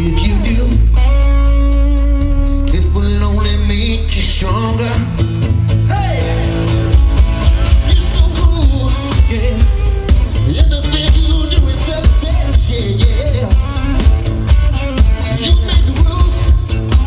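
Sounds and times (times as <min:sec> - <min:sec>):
live rock band playing: 0:00.0 - 0:17.0
pitch-bending voice or guitar line: 0:00.0 - 0:17.0.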